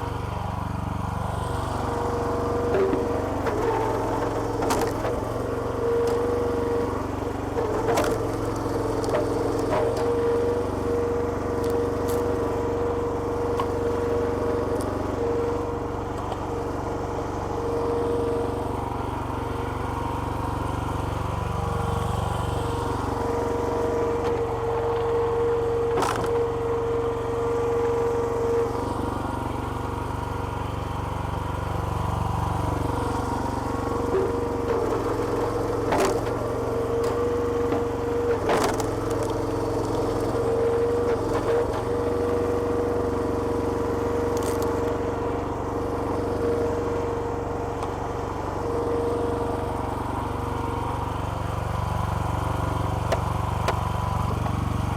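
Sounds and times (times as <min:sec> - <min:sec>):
small petrol engine running: 0:00.0 - 0:54.9.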